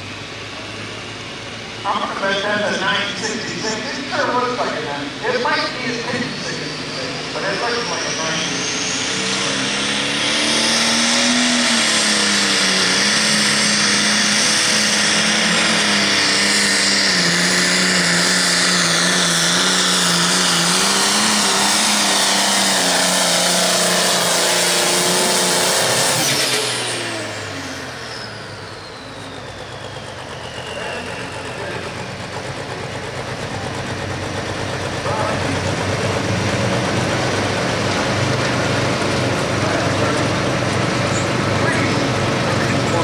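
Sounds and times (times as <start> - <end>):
tractor diesel engine at full throttle: 0.0 - 43.0
turbo whine: 0.0 - 43.0.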